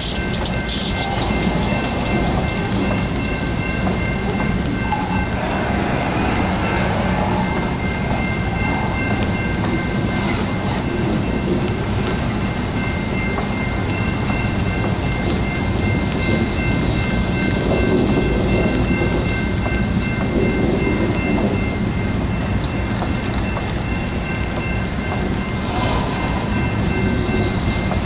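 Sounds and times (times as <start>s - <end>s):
freight train rumbling past: 0.0s - 28.0s
wheels clacking over rail joints: 0.0s - 28.0s.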